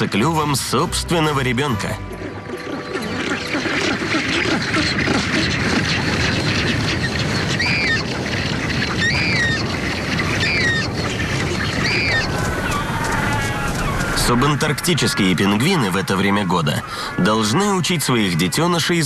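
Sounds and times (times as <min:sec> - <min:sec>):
penguin colony calling: 0:00.0 - 0:19.0.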